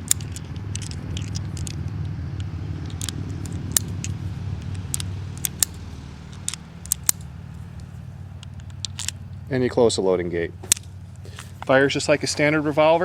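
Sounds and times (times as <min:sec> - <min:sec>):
revolver metallic clicks: 0:00.0 - 0:09.6, 0:10.6 - 0:11.8
low steady hum: 0:00.0 - 0:13.0.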